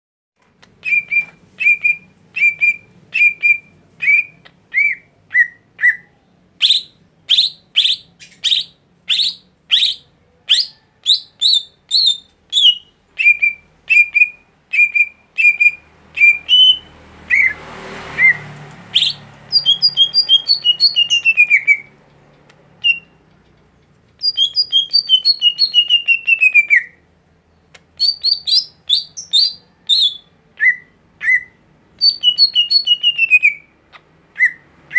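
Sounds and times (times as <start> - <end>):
songbird singing: 0.7 - 34.9.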